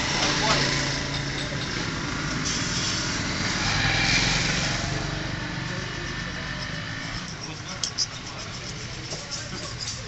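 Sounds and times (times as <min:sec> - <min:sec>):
small engine running: 0:00.0 - 0:09.9.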